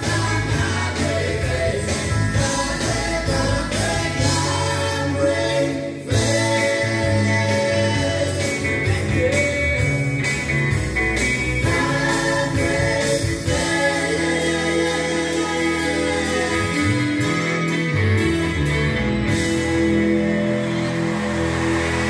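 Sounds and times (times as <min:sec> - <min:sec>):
music with singing over loudspeakers: 0:00.0 - 0:22.0.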